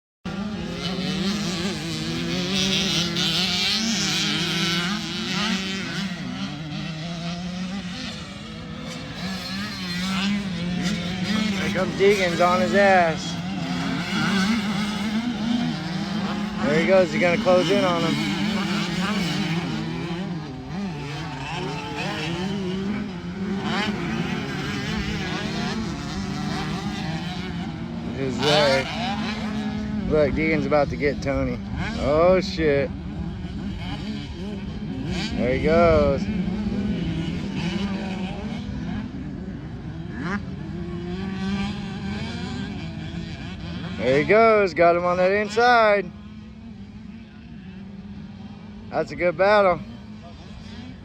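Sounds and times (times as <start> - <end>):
motocross bike engines revving: 0.3 - 51.0.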